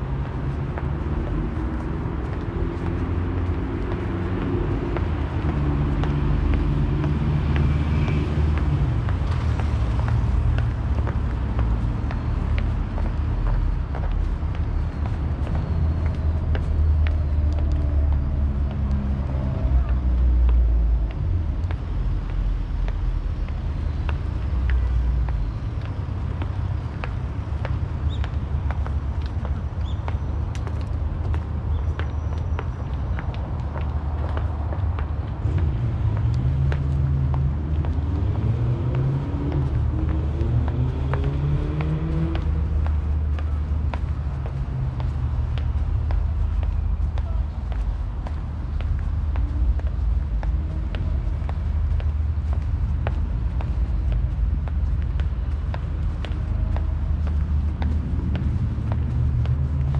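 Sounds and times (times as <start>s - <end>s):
city rumble: 0.0s - 59.9s
vehicle engines running: 0.0s - 59.9s.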